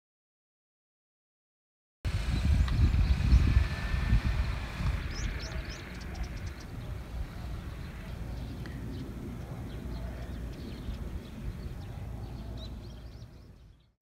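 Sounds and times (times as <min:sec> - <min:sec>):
wind rumbling on microphone: 0:02.1 - 0:14.0
small birds chirping faintly: 0:02.2 - 0:14.0.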